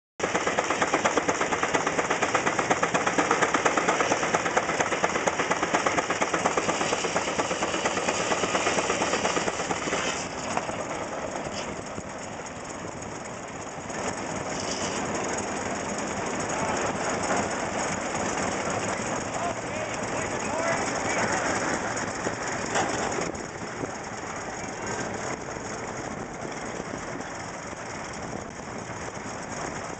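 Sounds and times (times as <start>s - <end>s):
steam engine exhaust beats: 0.2s - 29.9s.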